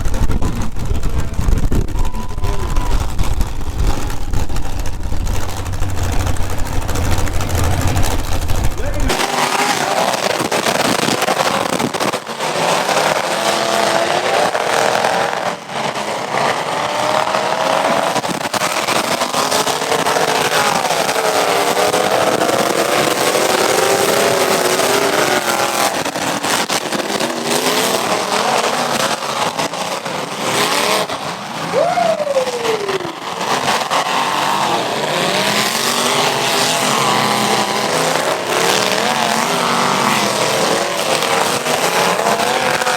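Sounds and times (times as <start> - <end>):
car engines revving hard: 0.0 - 42.9.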